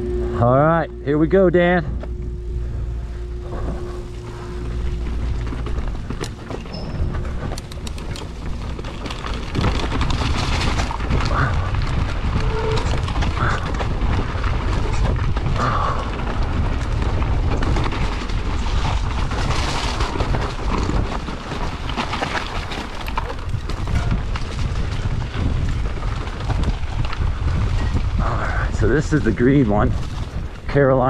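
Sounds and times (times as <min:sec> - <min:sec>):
wind buffeting microphone: 0:00.0 - 0:31.0
tyres rolling over dirt and rock: 0:01.6 - 0:31.0.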